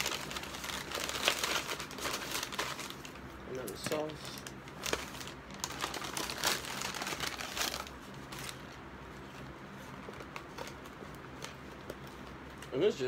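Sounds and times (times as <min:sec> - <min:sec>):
paper bag rustling: 0:00.0 - 0:11.6.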